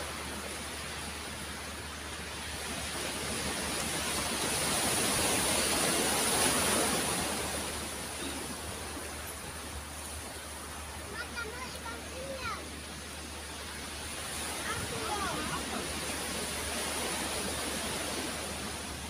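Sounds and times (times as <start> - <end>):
waves breaking on stony beach: 0.0 - 19.0.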